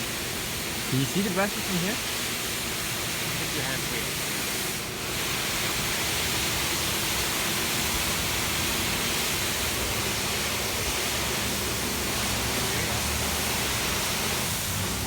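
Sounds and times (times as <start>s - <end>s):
automatic car wash rushing hiss: 0.0s - 15.0s.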